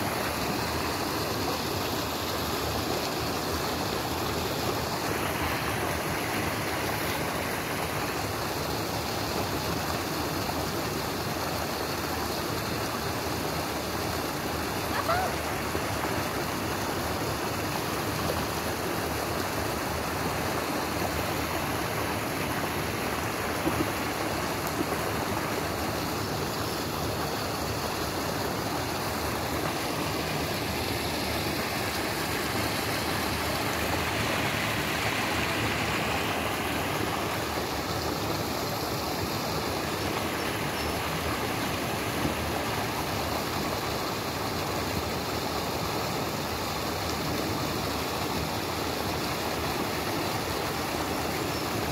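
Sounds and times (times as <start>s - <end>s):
creek rushing over rocks: 0.0s - 51.9s.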